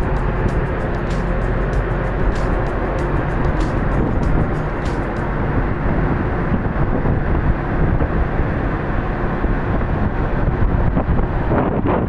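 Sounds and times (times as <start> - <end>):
ship rumble and rush: 0.0 - 12.0
wind on microphone: 0.0 - 12.0.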